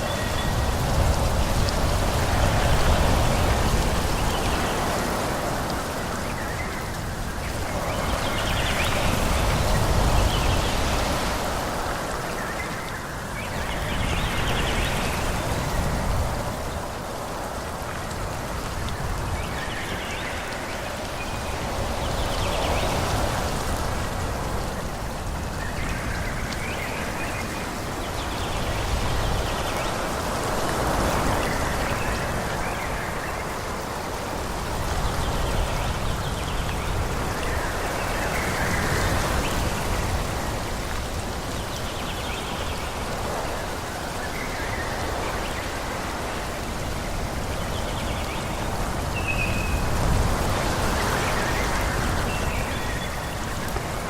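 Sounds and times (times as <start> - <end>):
wind blowing through trees: 0.0 - 54.0.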